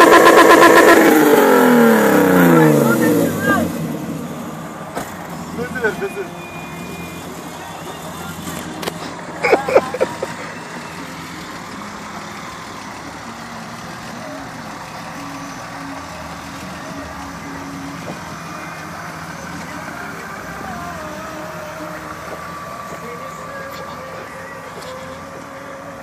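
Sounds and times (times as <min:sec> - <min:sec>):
car engine idling: 0:00.0 - 0:26.0
loud burst of voices: 0:01.0 - 0:22.1.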